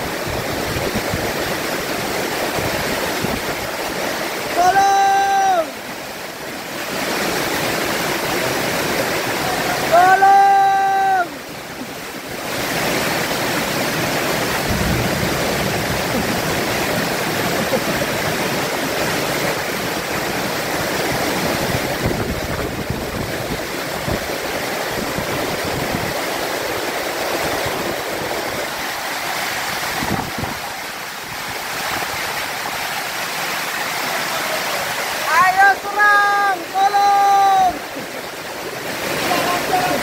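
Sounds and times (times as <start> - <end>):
strong wind gusts: 0.0 - 33.0
torrential rain: 0.0 - 40.0.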